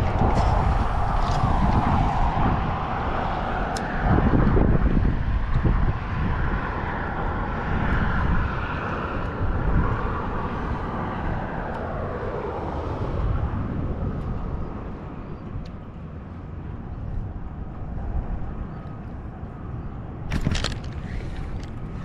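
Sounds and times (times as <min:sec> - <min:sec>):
wind gusting on microphone: 0:00.0 - 0:22.0.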